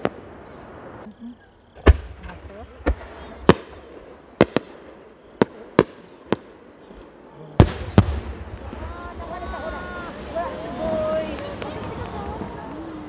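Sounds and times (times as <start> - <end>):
low rumbling echo: 1.8 - 13.0.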